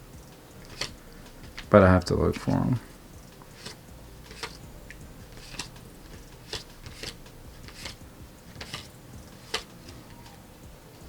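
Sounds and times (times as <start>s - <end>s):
trading cards flicked by hand: 0.3s - 11.0s.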